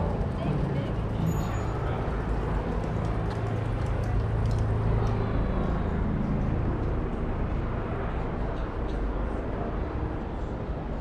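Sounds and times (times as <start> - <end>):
large vehicle engine humming: 0.0 - 9.6
street traffic: 0.0 - 11.0.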